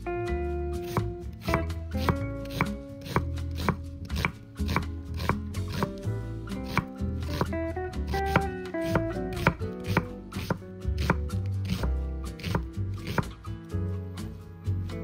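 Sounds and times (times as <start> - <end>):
background music: 0.0 - 15.0
knife chopping on wooden board: 0.8 - 13.4.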